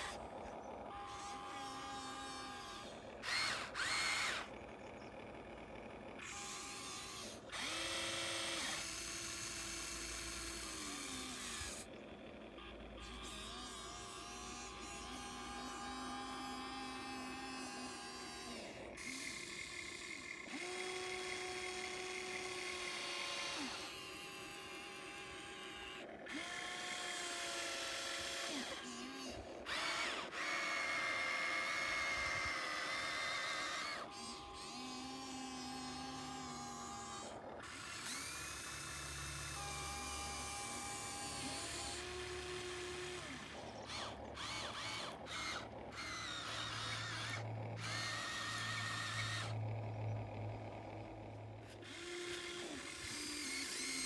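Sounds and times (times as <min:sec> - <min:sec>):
small electric motors whining: 0:00.0 - 0:54.0.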